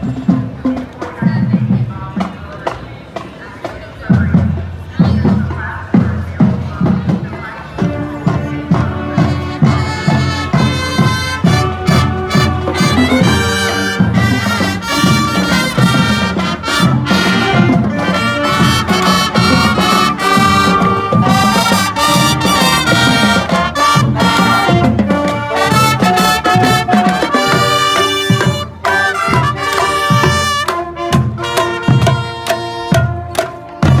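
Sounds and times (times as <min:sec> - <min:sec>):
marching band playing: 0:00.0 - 0:34.0
steady drum beat: 0:00.0 - 0:34.0.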